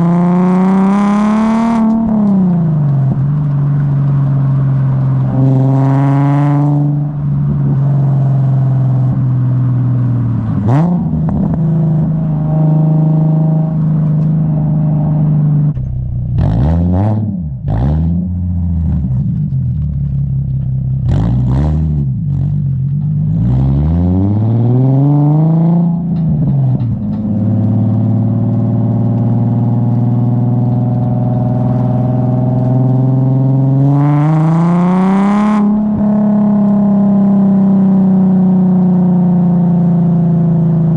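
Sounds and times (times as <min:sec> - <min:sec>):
car exhaust drone and revving: 0:00.0 - 0:40.9.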